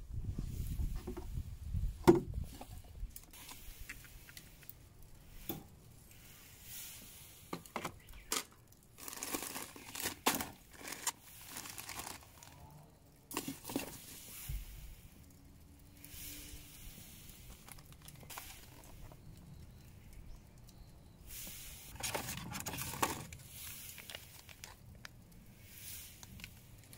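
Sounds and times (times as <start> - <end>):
plastic bags rustling: 2.4 - 20.2, 21.2 - 26.9.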